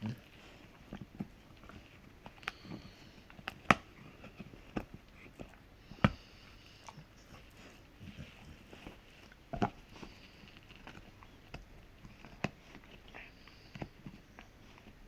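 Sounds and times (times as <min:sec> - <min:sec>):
dog gnawing hard chew: 0:00.0 - 0:15.0.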